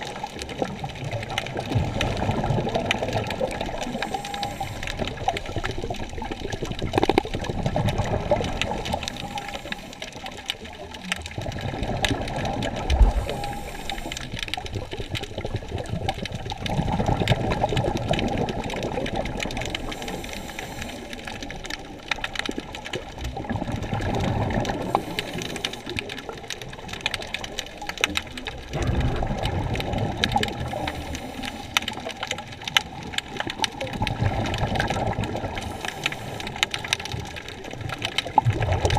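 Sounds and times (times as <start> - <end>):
crackle of small clicks: 0.0 - 38.9
underwater rushing water: 0.0 - 38.9.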